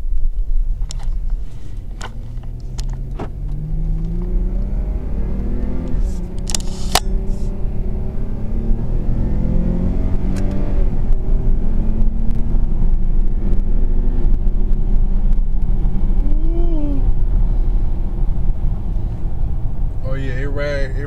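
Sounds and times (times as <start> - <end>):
car engine accelerating: 0.0 - 21.0
low road rumble: 0.0 - 21.0.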